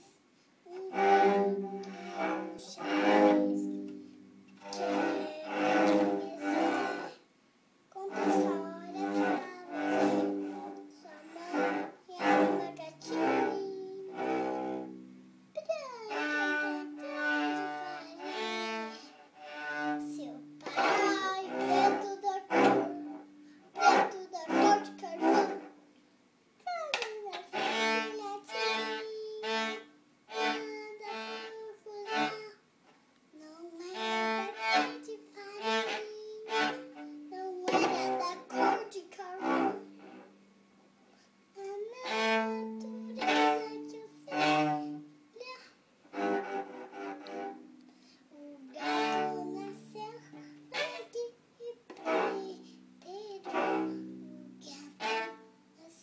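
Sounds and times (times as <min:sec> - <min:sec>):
child singing: 0:00.0 - 0:03.9, 0:04.6 - 0:07.2, 0:07.9 - 0:14.8, 0:15.6 - 0:25.8, 0:26.6 - 0:32.6, 0:33.4 - 0:40.0, 0:41.6 - 0:45.8, 0:48.3 - 0:56.0
cello bowed notes: 0:00.7 - 0:07.2, 0:07.9 - 0:25.8, 0:27.0 - 0:32.6, 0:33.8 - 0:45.3, 0:46.1 - 0:55.8.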